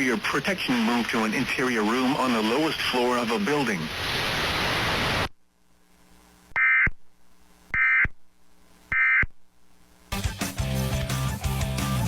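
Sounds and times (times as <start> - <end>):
static hiss: 0.0 - 10.2.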